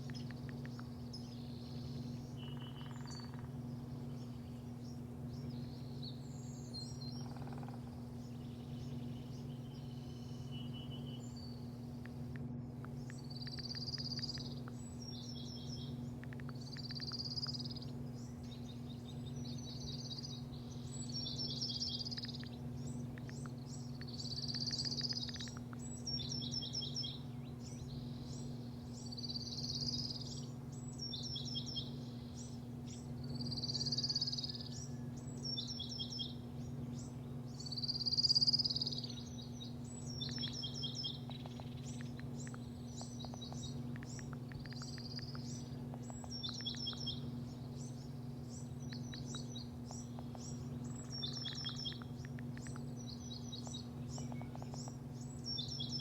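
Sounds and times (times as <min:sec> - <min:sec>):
low machine hum: 0:00.0 - 0:56.0
small birds chirping: 0:00.0 - 0:56.0.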